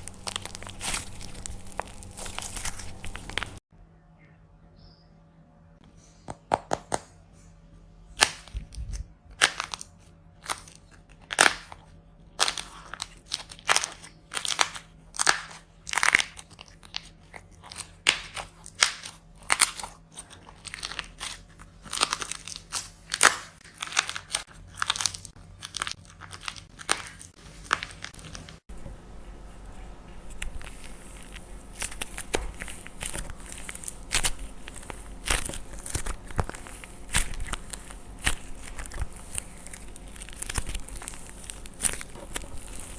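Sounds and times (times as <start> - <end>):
dry clay crunching and cracking: 0.0 - 3.6, 8.2 - 28.6, 29.6 - 42.9.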